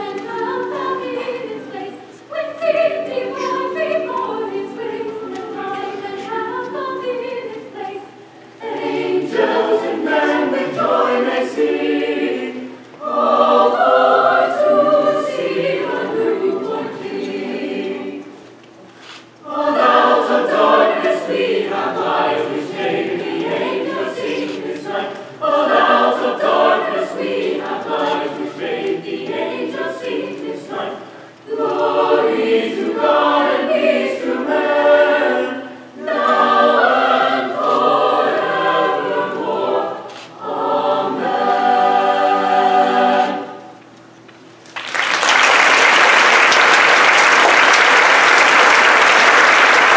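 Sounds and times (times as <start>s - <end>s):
mixed choir singing: 0.0s - 18.6s, 19.4s - 43.8s, 45.5s - 49.9s.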